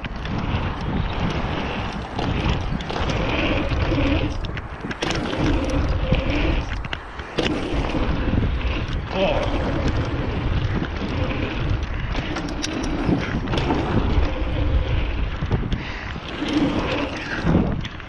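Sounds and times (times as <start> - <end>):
bike tyres rolling over dirt: 0.0 - 18.0
wind buffeting camera: 0.0 - 18.0.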